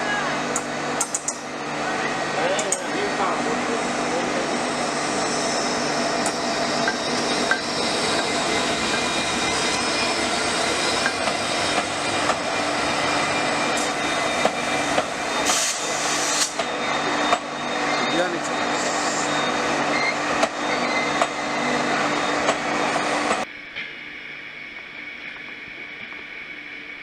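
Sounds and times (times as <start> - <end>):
train wheels running: 0.0 - 24.0.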